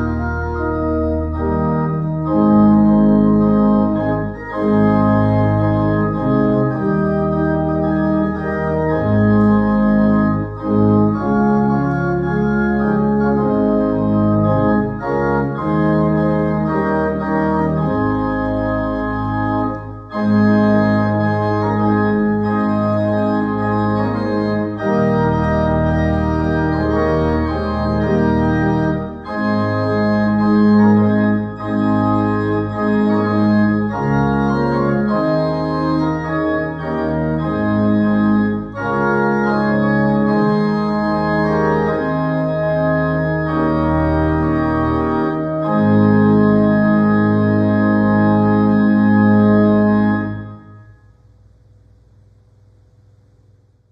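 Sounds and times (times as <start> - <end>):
organ playing sustained chords: 0.0 - 51.2.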